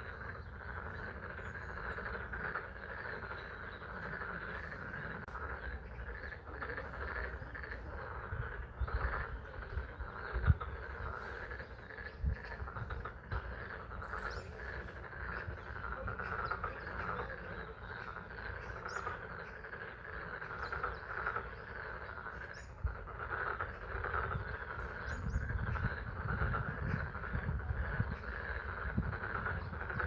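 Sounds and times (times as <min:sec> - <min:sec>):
frogs chorus trilling: 0:00.0 - 0:30.0.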